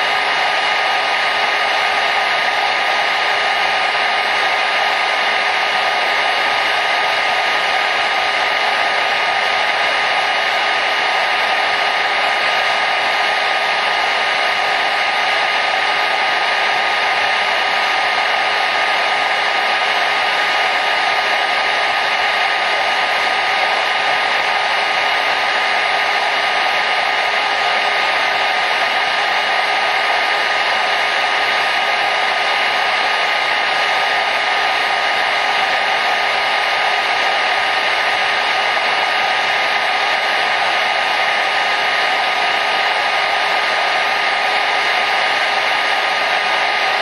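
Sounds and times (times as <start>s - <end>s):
hair dryer running: 0.0s - 47.0s.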